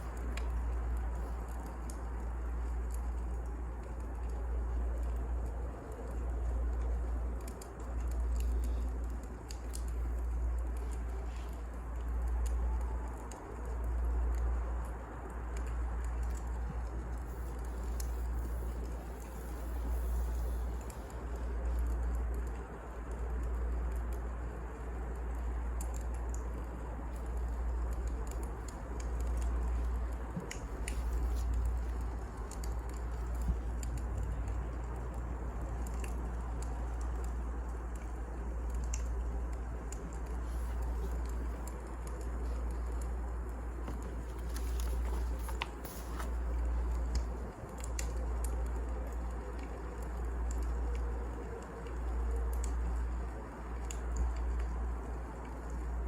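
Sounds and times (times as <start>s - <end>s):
fire low rumble: 0.0s - 56.0s
firewood crackling and popping: 0.0s - 56.0s.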